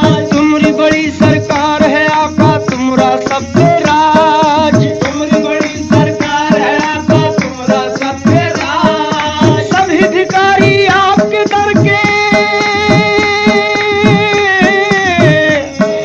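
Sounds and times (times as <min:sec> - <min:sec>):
hand drum and shaker beat: 0:00.0 - 0:16.0.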